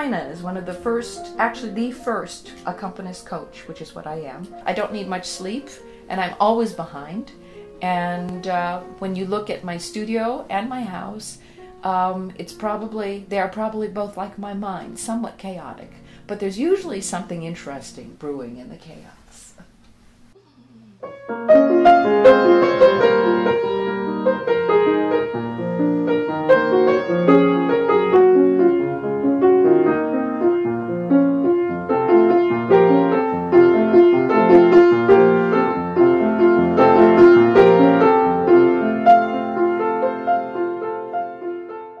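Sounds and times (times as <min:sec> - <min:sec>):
solo piano playing: 0:00.0 - 0:12.9, 0:21.0 - 0:42.0.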